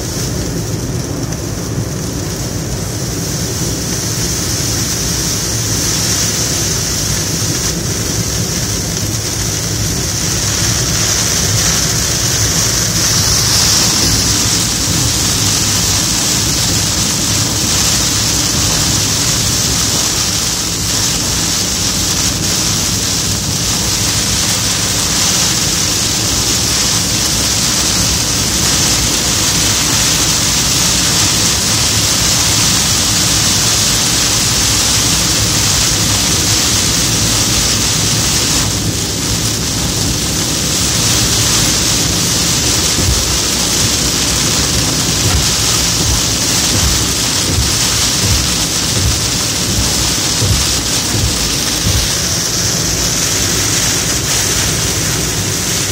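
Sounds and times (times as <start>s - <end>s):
heavy rain on car roof: 0.0s - 55.9s
road and engine hum: 0.0s - 55.9s.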